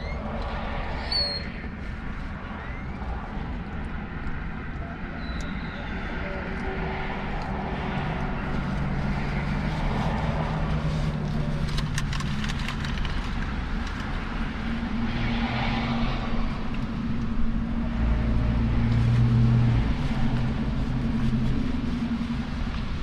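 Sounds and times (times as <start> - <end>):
traffic engine hum: 0.0 - 23.0.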